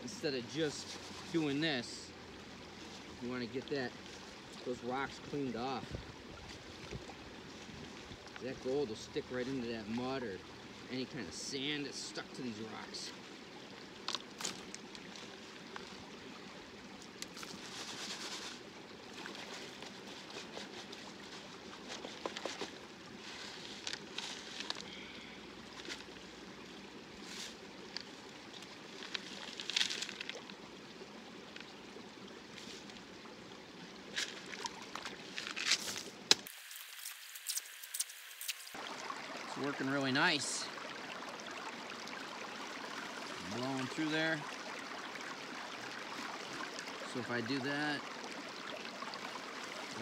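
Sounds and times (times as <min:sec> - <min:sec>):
creek water running: 0:00.0 - 0:50.0.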